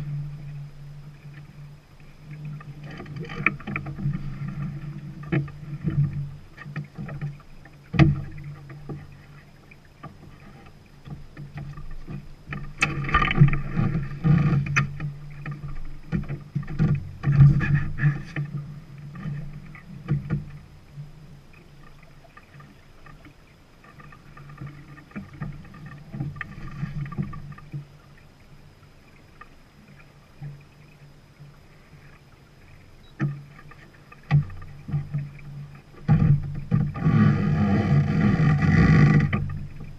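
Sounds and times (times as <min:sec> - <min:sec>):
water rushing along a hull: 0:00.0 - 0:39.9.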